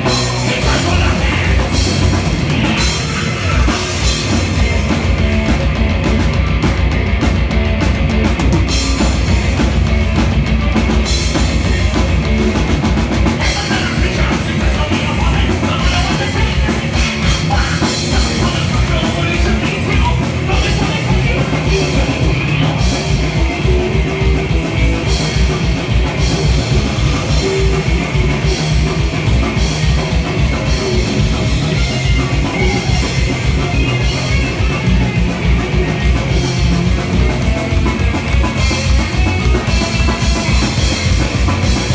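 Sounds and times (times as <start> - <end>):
drum kit: 0.0 - 41.9
electric guitars: 0.0 - 41.9.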